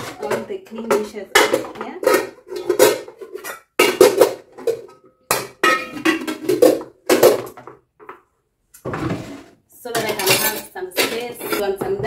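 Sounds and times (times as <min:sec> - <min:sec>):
pots and dishes clattering: 0:00.0 - 0:08.2, 0:08.8 - 0:12.0.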